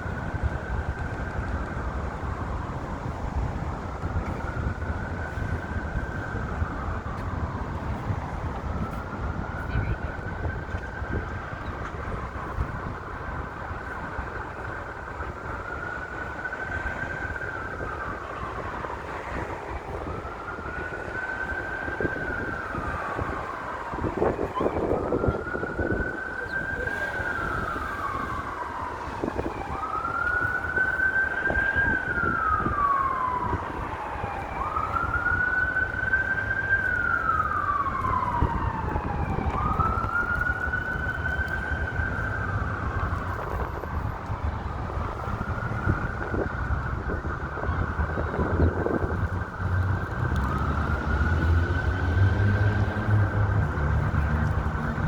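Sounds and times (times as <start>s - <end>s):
city traffic rumble: 0.0s - 55.0s
emergency vehicle siren wailing: 0.0s - 55.0s
wind: 0.0s - 55.0s.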